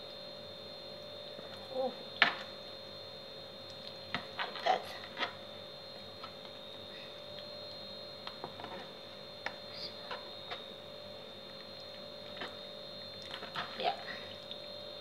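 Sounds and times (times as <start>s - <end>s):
electrical hum with high whine: 0.0s - 15.0s.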